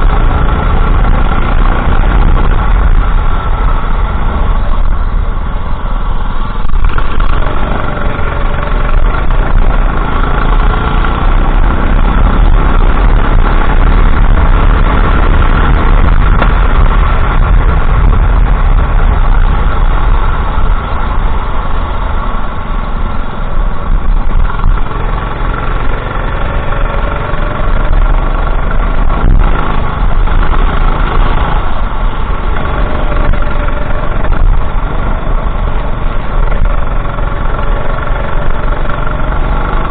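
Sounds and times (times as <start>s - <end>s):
racing kart engine running hard: 0.0s - 39.9s.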